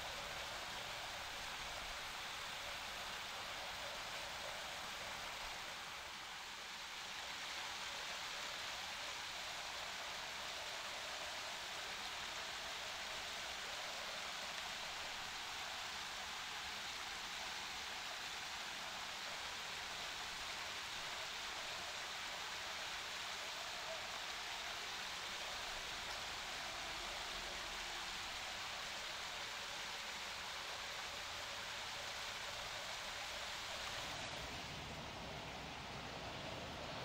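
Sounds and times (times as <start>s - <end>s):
small waterfall splashing: 0.0s - 37.0s.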